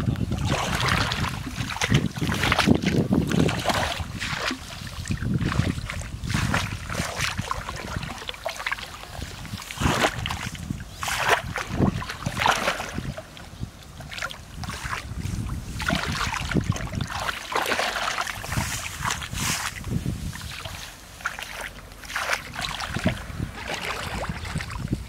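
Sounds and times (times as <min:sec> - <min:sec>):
water splashing and sloshing: 0:00.0 - 0:25.0
wind rumbling on microphone: 0:00.0 - 0:25.0.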